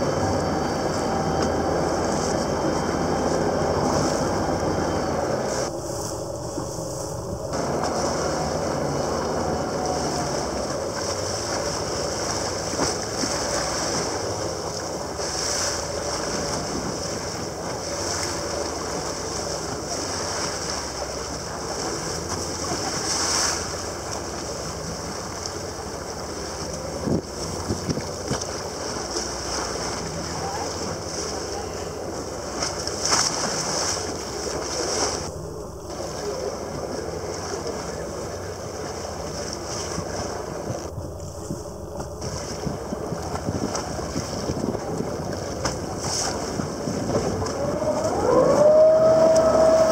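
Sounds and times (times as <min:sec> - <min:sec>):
choppy sea water: 0:00.0 - 0:49.9
faint steady hum: 0:00.0 - 0:49.9.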